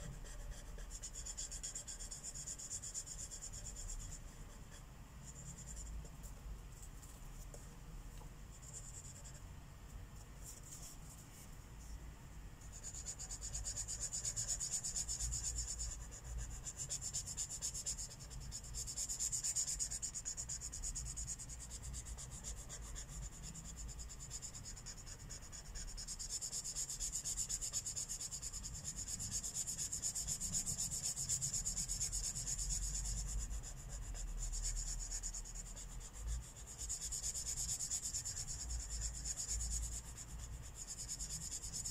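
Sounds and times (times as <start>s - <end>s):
marker scratching on paper: 0.0s - 6.2s, 8.5s - 9.4s, 10.4s - 11.5s, 12.7s - 41.9s.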